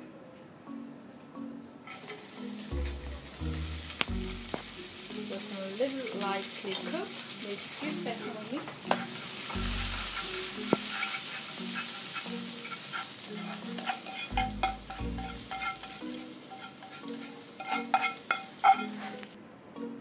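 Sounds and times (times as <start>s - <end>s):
chopsticks clicking against pan: 1.9s - 19.4s
vegetables sizzling in a frying pan: 1.9s - 19.4s.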